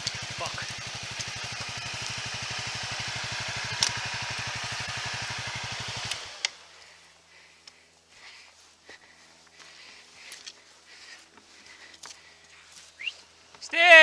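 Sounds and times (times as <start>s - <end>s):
motorcycle engine idling: 0.0s - 13.5s.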